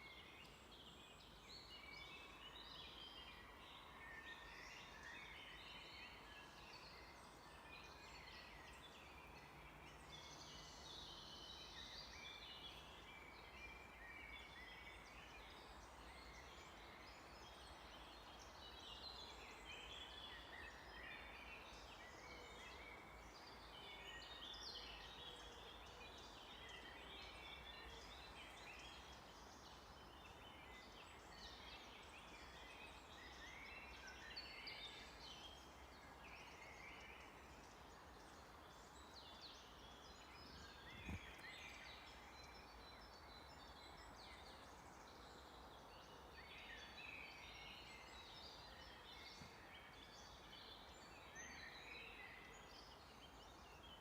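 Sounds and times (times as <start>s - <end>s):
soft steady hiss: 0.0s - 54.0s
songbirds chirping and trilling: 0.0s - 54.0s.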